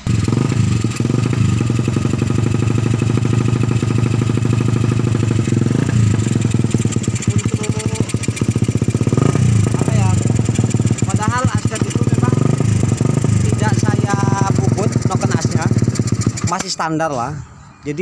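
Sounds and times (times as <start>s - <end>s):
motorcycle engine revving: 0.0s - 17.3s.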